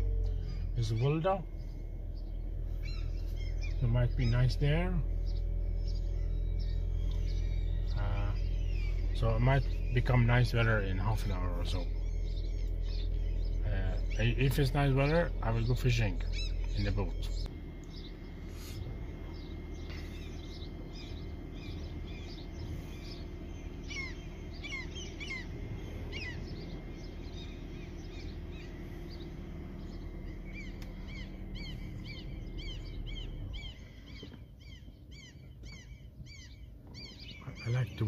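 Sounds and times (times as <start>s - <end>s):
small birds chirping: 0.0s - 38.0s
steady low rumble: 0.0s - 38.0s.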